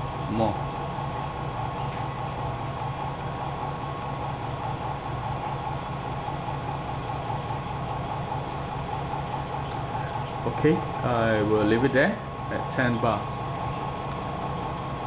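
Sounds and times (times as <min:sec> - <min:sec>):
pump running with steady hum: 0:00.0 - 0:15.0.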